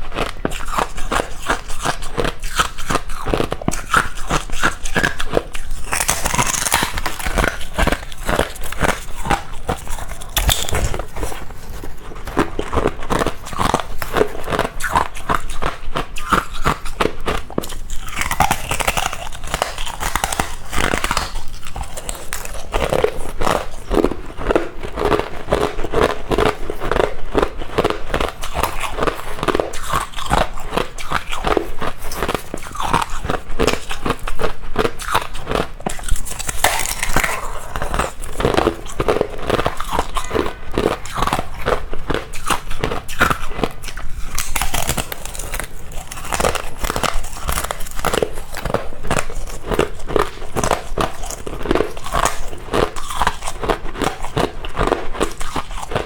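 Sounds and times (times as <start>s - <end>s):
crunching frost ice: 0.2s - 56.0s.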